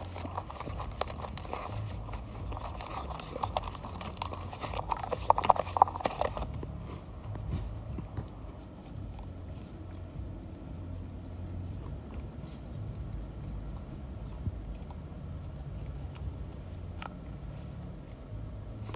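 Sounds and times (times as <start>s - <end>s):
puppy lapping in paper cup: 0.0s - 18.9s
steady low hum: 0.0s - 18.9s.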